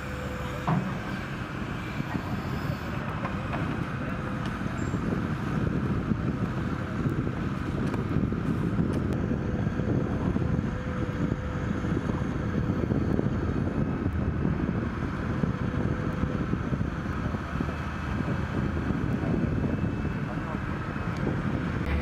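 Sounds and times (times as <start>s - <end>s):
excavator diesel engine running: 0.0s - 22.0s
wind on microphone: 1.9s - 22.0s.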